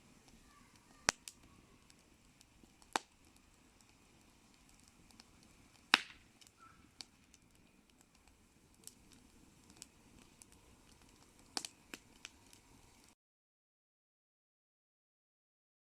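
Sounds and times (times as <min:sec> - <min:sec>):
campfire crackling: 0:00.0 - 0:13.2
sharp pops from fire: 0:00.0 - 0:13.2.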